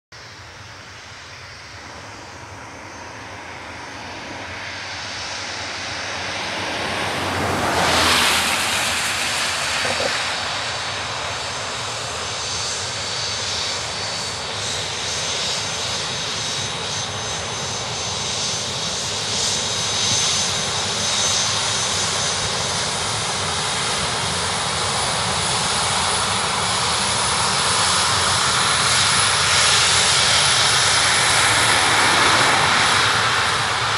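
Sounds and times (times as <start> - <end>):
jet engines rushing with high whine: 0.2 - 33.9.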